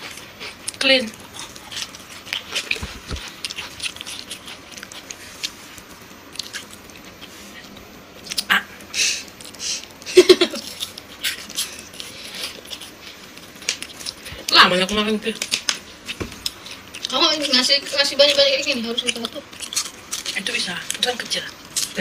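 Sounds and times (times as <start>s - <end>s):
chewing and mouth sounds: 0.0s - 22.0s.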